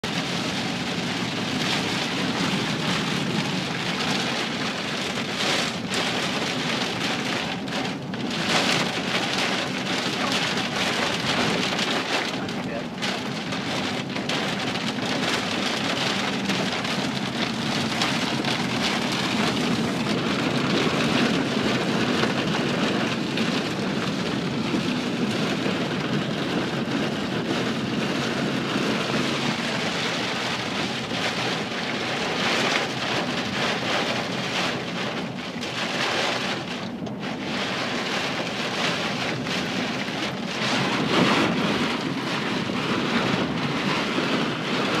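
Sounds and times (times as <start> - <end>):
heavy rain on vehicle roof: 0.0 - 45.0.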